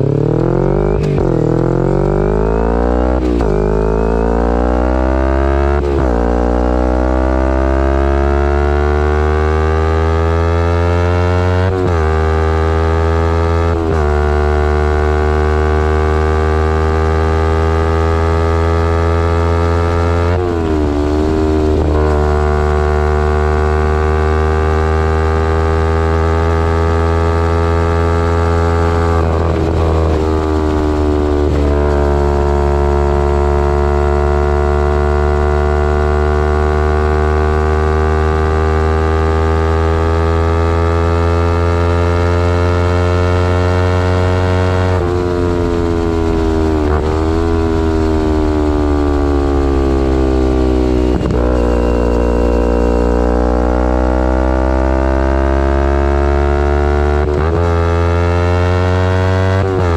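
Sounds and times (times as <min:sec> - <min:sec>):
motorcycle engine running: 0:00.0 - 0:07.2, 0:11.7 - 0:58.7.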